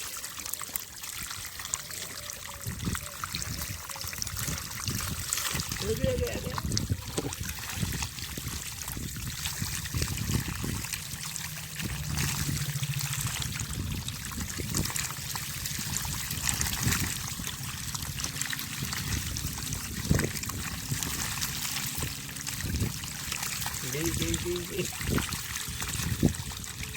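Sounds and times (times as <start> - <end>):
small water splashes: 0.0 - 26.9
water trickling: 0.0 - 26.9.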